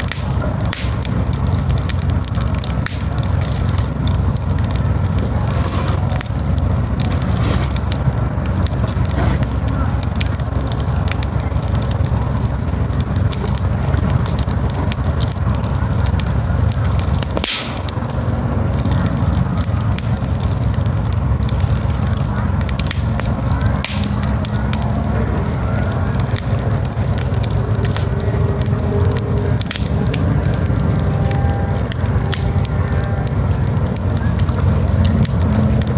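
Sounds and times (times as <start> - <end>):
campfire crackling: 0.0 - 35.9
fire hiss: 0.0 - 35.9
low rumble: 0.0 - 35.9.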